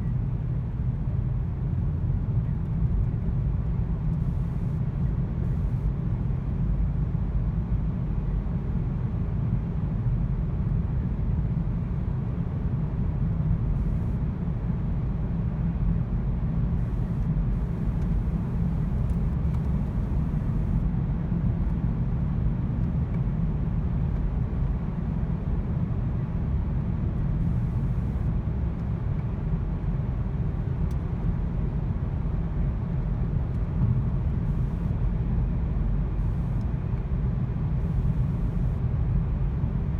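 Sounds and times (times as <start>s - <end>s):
car engine and road noise: 0.6s - 39.9s.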